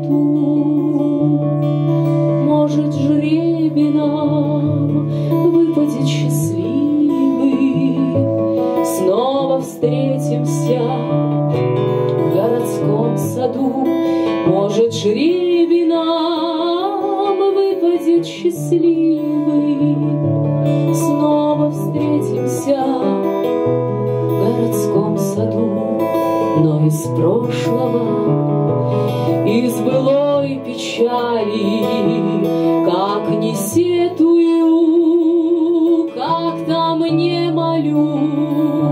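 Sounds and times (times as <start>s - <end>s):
strummed acoustic guitar: 0.0s - 38.9s.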